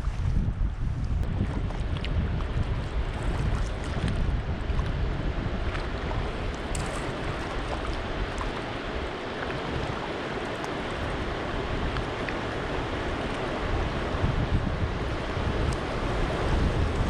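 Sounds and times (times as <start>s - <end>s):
wind on microphone: 0.0s - 17.0s
river water rushing: 2.2s - 17.0s.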